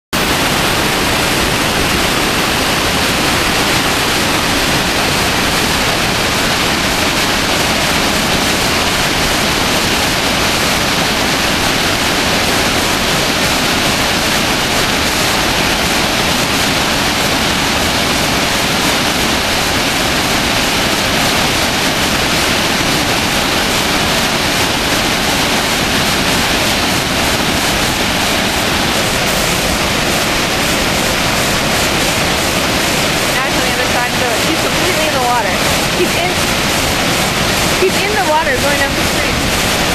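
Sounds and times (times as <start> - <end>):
waterfall rushing over boulders: 0.1 - 39.9.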